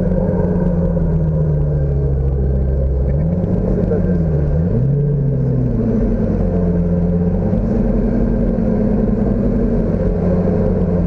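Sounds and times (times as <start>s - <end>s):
sports car engine droning: 0.0s - 11.0s.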